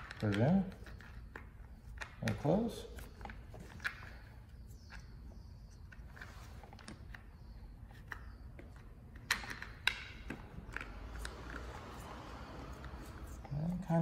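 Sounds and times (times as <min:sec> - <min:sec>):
faint clicks and knocks of parts: 0:00.0 - 0:14.0.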